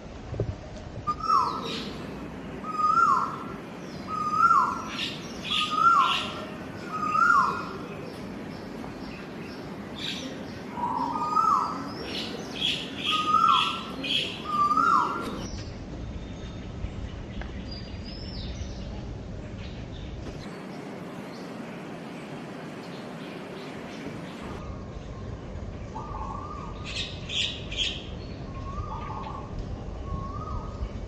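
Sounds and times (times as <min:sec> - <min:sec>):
faint outdoor background: 0:00.0 - 0:31.0.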